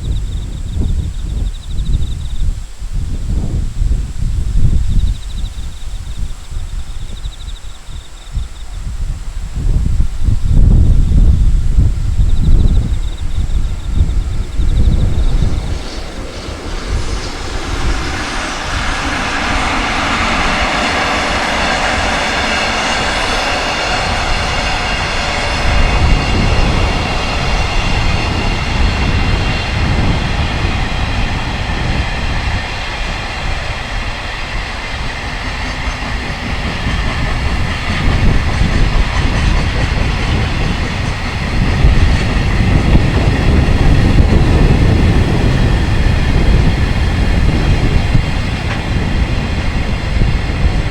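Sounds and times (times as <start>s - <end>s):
steady high locomotive tones: 0.0s - 50.9s.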